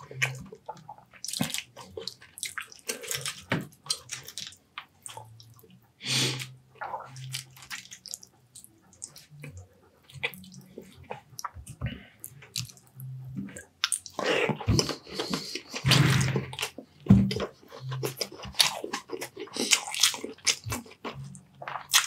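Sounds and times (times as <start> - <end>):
wet chewing and lip-smacking: 0.0 - 15.9, 16.6 - 22.0.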